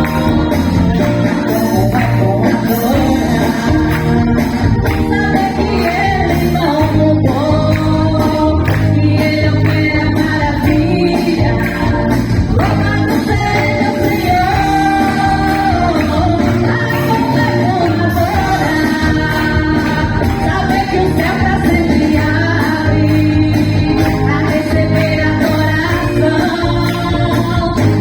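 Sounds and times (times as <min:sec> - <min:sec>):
women's choir singing: 0:00.0 - 0:27.6
instrumental accompaniment with beat: 0:00.0 - 0:28.0.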